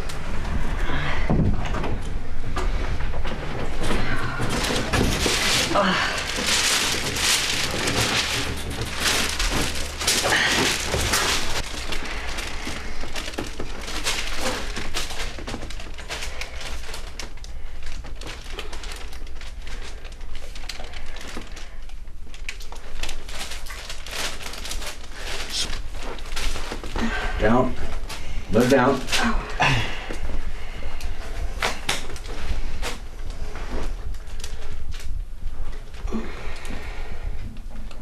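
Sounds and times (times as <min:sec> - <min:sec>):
paper cover crackling and rustling: 0:03.0 - 0:37.0.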